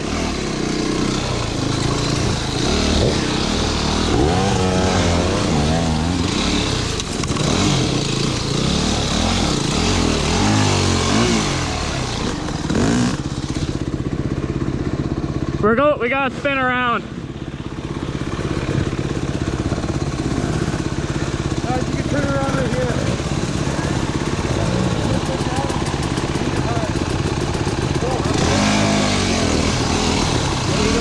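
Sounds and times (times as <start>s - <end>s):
wind and road noise: 0.0s - 15.6s, 16.6s - 31.0s
motorcycle engine revving: 0.0s - 31.0s.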